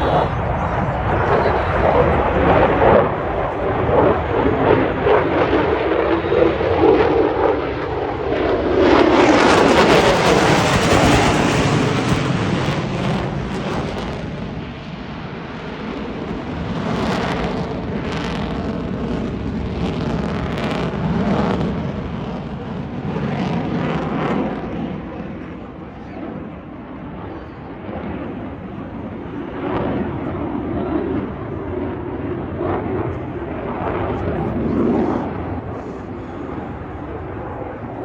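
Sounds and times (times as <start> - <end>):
fighter jet engine roaring: 0.0 - 38.0.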